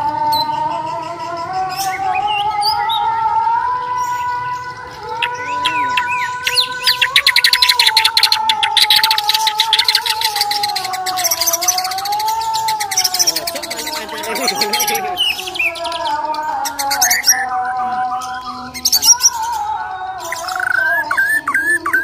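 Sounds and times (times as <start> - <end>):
bird singing whistles and chatter: 4.0 - 22.0.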